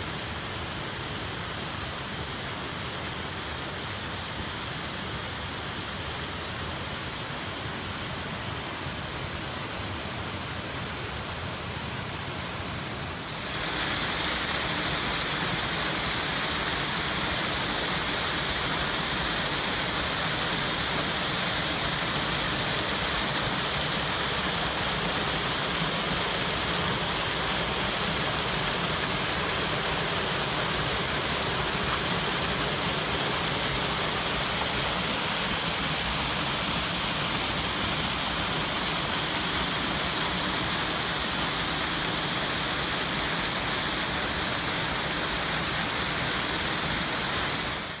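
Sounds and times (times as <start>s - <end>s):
waterfalls splashing into pools: 0.0s - 48.0s.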